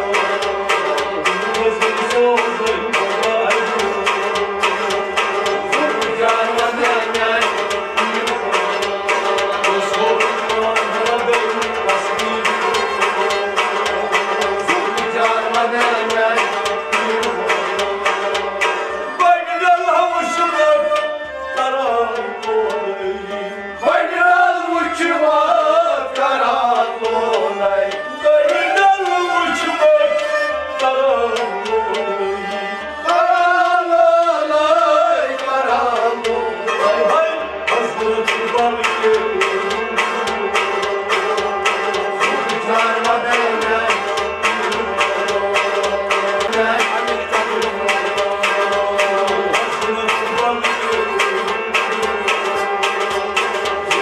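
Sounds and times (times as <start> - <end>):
person singing: 0.0 - 18.4, 19.0 - 54.0
bowed sarangi: 0.0 - 54.0
goblet drum: 0.0 - 54.0
harmonium: 0.0 - 54.0
rabab: 0.0 - 54.0.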